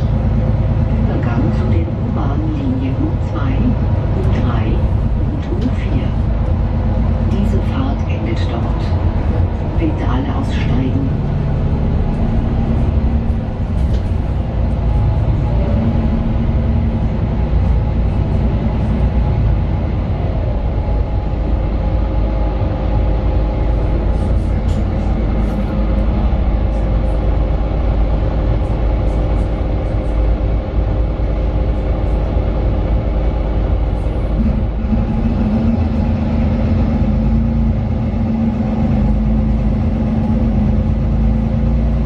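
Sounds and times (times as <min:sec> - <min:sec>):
bus diesel engine rumbling: 0:00.0 - 0:42.0.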